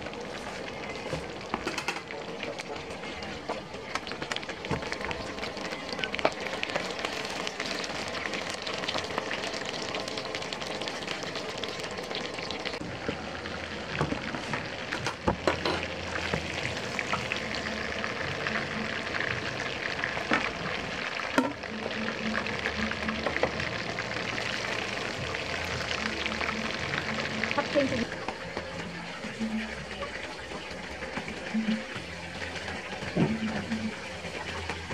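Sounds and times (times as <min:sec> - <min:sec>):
food sizzling in a hot pan: 0:00.0 - 0:34.9.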